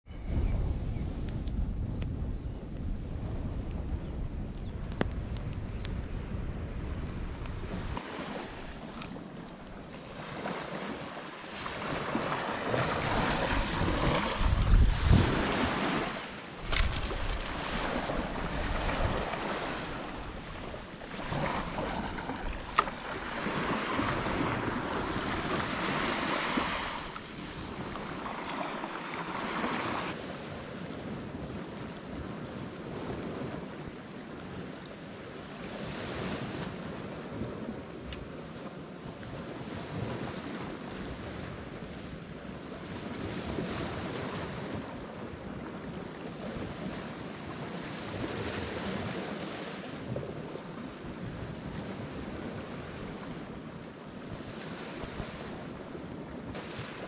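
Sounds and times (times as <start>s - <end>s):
wind on microphone: 0.0s - 57.0s
waves washing up a beach: 3.1s - 57.0s.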